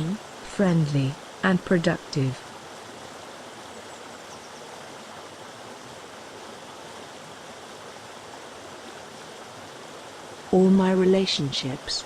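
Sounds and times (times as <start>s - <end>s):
river rushing over boulders: 0.0s - 12.0s
waterfall: 0.0s - 12.0s.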